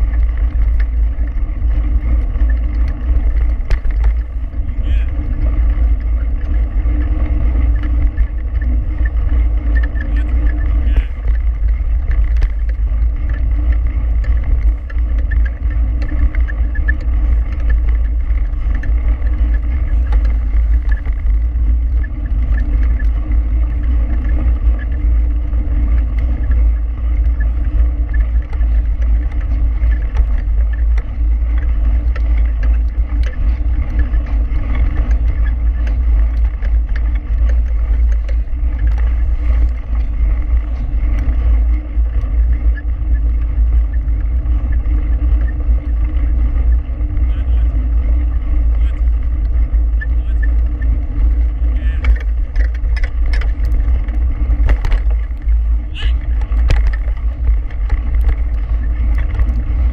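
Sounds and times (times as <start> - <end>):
bike rattling ticks: 0.0 - 59.9
bike tyre noise on dirt: 0.0 - 59.9
wind buffeting microphone: 0.0 - 59.9.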